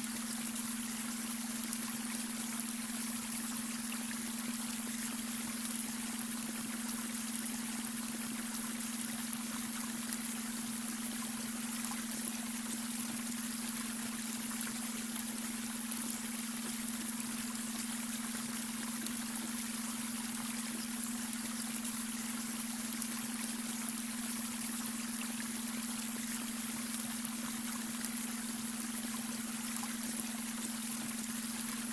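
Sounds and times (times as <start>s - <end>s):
brook water trickling: 0.0s - 31.9s.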